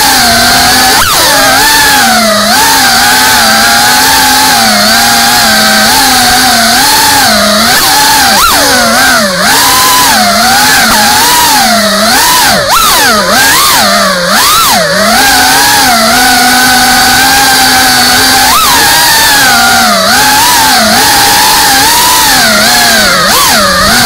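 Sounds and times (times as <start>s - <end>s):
drone propellers buzzing whine: 0.0s - 24.0s.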